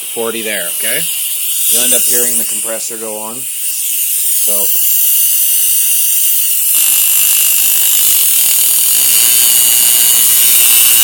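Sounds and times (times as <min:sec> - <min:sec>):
air compressor running: 0:00.8 - 0:11.0.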